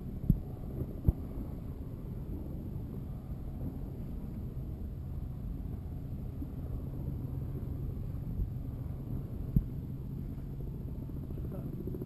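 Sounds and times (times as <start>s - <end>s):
boat engine rumbling: 0.0s - 12.0s
wind on microphone: 0.0s - 12.0s.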